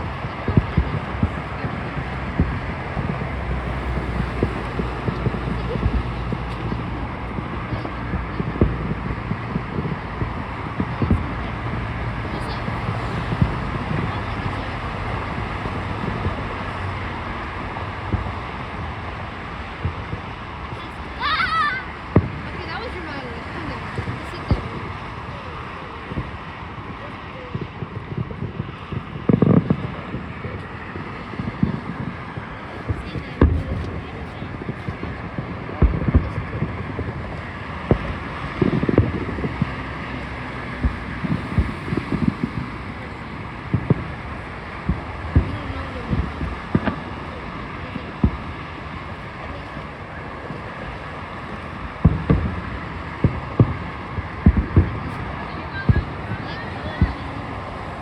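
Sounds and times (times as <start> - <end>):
distant fireworks booming: 0.0 - 58.0
people chattering: 0.0 - 58.0
steady background noise: 0.0 - 58.0
wind on microphone: 0.0 - 58.0.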